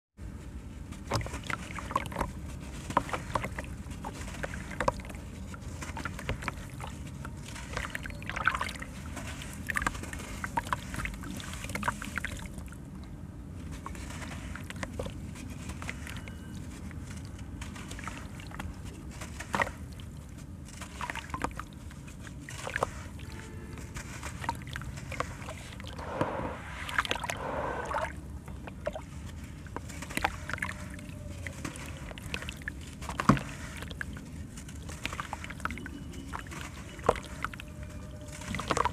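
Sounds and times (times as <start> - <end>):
low background noise: 0.2 - 38.9
water sloshing and splashing: 0.5 - 38.9.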